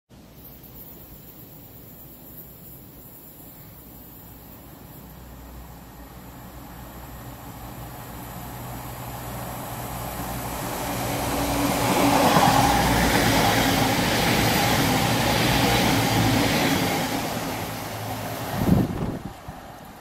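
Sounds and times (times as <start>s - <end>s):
train diesel engines passing: 0.2s - 20.0s
train wheels on rails: 0.4s - 20.0s.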